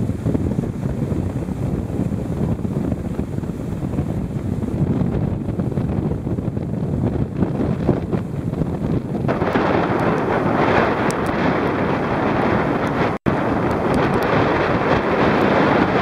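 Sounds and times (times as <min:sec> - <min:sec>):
storm wind buffeting microphone: 0:00.0 - 0:16.0.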